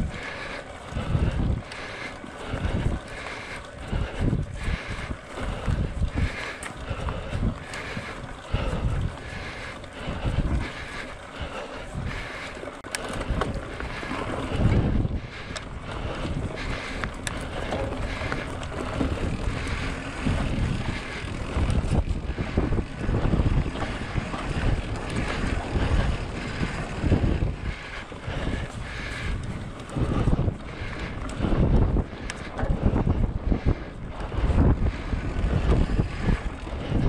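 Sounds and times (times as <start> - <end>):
bike clicks and rattles: 0.0 - 37.0
wind buffeting microphone: 0.0 - 37.0.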